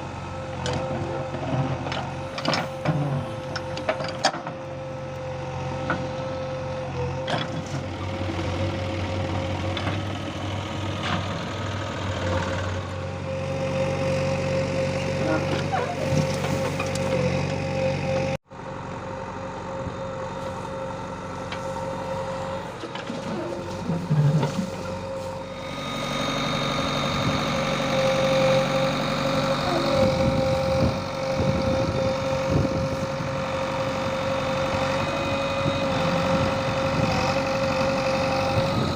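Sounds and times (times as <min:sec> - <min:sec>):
machinery whining: 0:00.0 - 0:18.4, 0:19.8 - 0:38.9
low machinery hum: 0:00.0 - 0:38.9.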